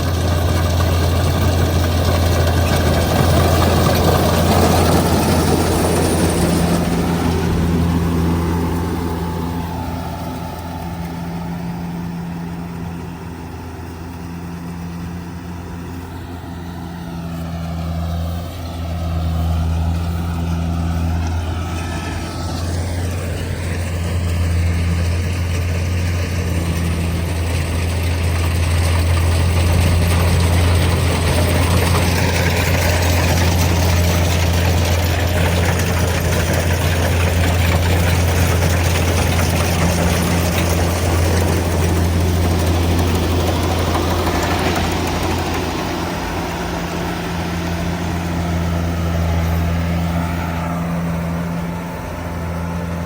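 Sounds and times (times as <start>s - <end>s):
combine harvester engine running: 0.0s - 53.0s.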